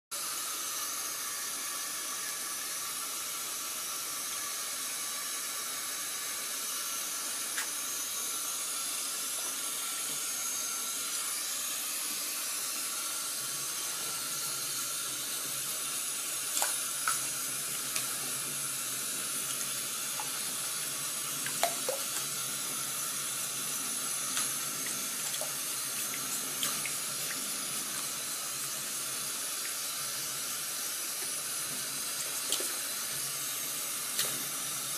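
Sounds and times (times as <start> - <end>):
tap water running into tub: 0.2 - 34.9.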